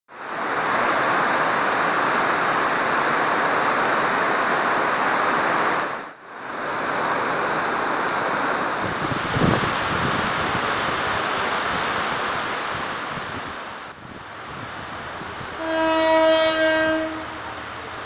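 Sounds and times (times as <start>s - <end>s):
heavy rain pouring: 0.1s - 18.0s.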